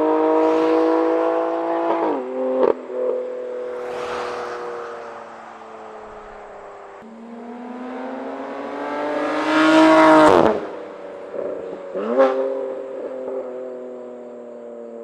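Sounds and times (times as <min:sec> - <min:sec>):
car accelerating past: 0:00.0 - 0:13.8.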